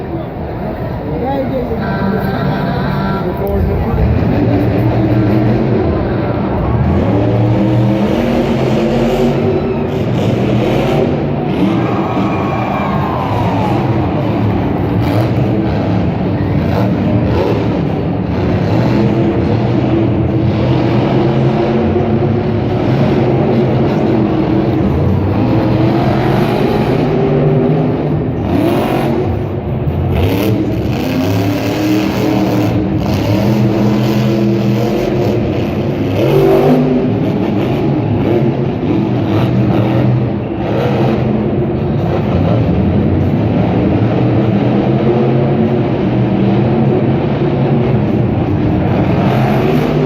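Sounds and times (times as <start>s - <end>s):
truck engine revving: 0.0s - 50.0s.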